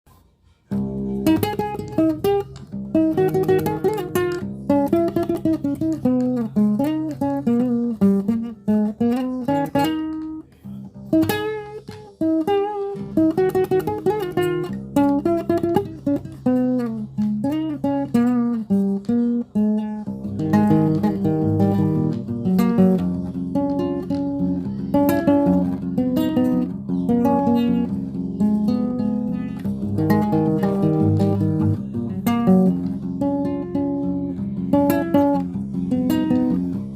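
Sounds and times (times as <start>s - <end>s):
plucked guitar melody: 0.5s - 36.9s
strummed guitar chords: 0.7s - 36.9s.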